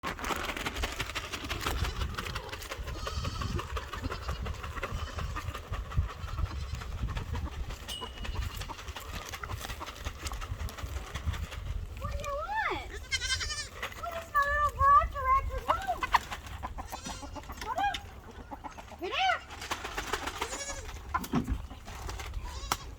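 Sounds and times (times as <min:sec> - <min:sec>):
chickens calling softly: 0:01.0 - 0:22.9.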